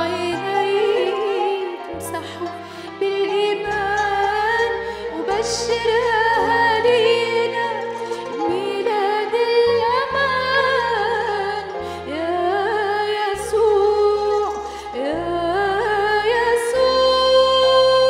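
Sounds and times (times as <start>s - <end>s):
held instrumental chords: 0.0s - 18.0s
woman singing: 0.0s - 18.0s.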